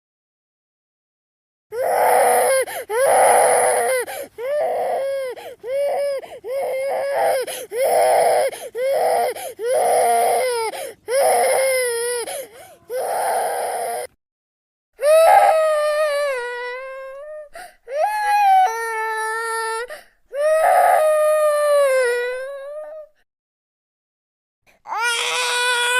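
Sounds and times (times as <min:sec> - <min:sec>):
baby crying: 0:01.7 - 0:14.1, 0:15.0 - 0:23.2, 0:24.8 - 0:25.9.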